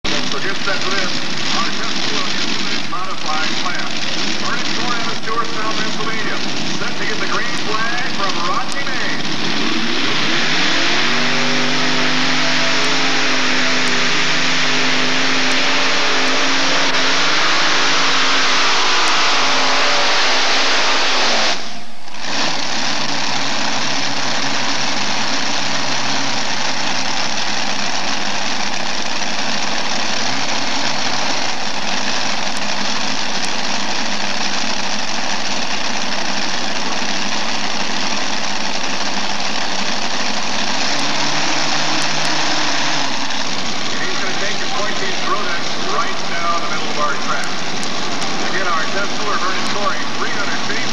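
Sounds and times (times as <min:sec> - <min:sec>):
loud tractor engines running: 0:00.0 - 0:50.9.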